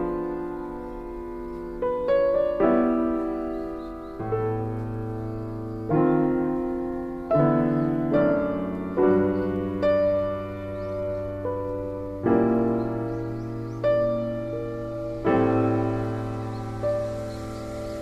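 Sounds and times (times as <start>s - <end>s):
slow gentle piano chords: 0.0s - 18.0s.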